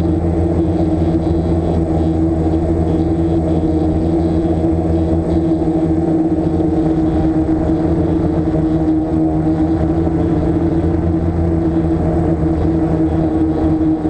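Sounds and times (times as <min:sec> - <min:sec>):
drone motors and propellers humming: 0:00.0 - 0:14.0.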